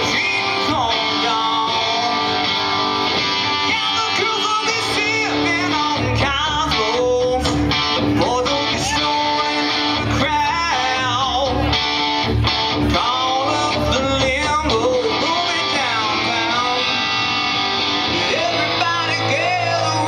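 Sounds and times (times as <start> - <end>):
person singing: 0.0 - 11.9, 12.7 - 17.4, 18.0 - 20.0
electric guitar playing: 0.0 - 20.0.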